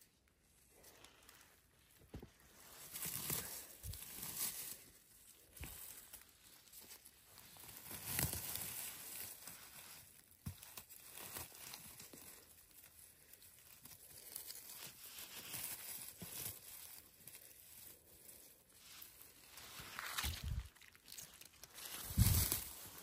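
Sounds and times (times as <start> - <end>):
rustling through undergrowth: 0.6 - 23.0.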